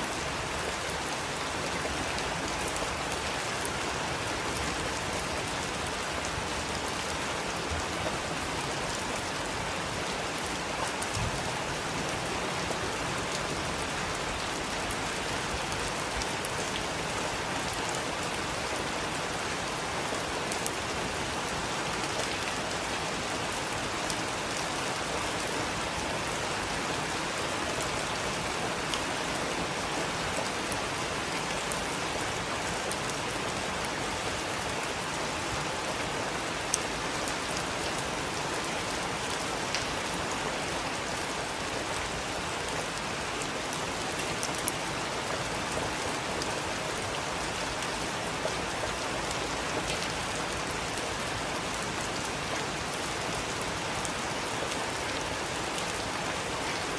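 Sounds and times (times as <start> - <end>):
heavy rain falling: 0.0 - 56.9
rain drop ticks and splashes: 0.0 - 56.9.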